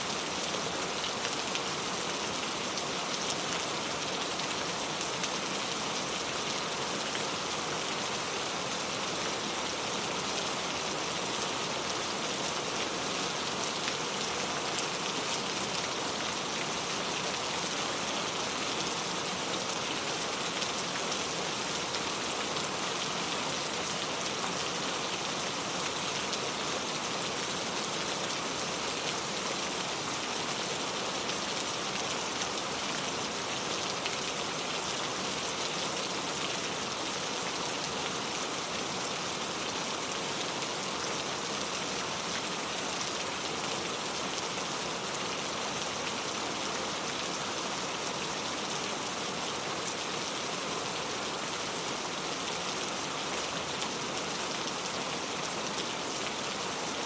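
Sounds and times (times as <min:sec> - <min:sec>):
steady rain pattering: 0:00.0 - 0:57.0.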